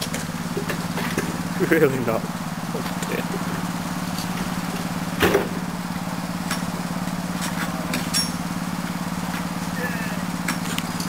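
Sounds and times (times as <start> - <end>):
small locomotive engine idling: 0.0 - 11.0.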